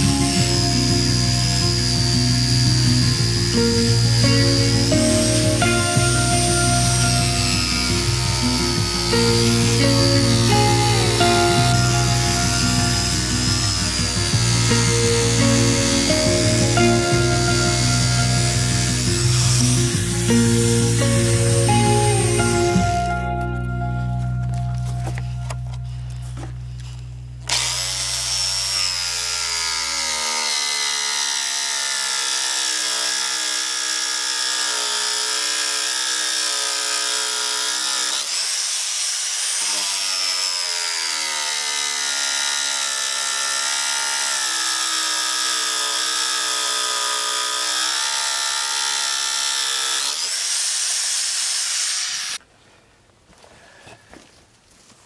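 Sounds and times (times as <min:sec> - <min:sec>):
jigsaw cutting wood: 0:00.0 - 0:52.4.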